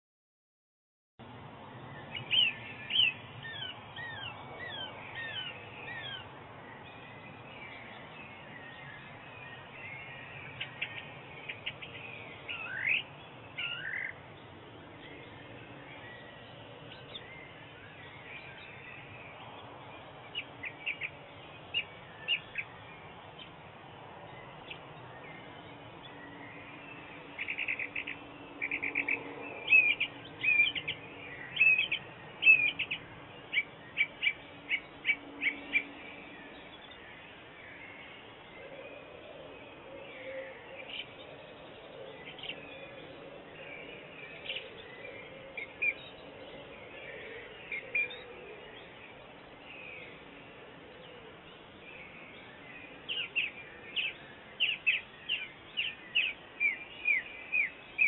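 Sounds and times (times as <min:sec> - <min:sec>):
songbirds chirping: 0:01.2 - 0:58.0.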